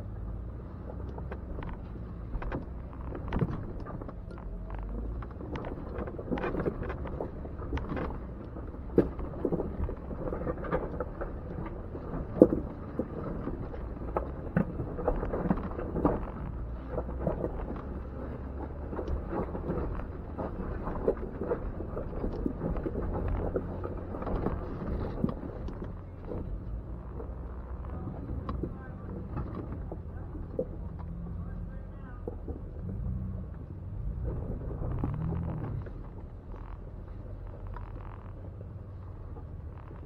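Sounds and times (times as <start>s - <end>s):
low engine rumble: 0.0s - 40.0s.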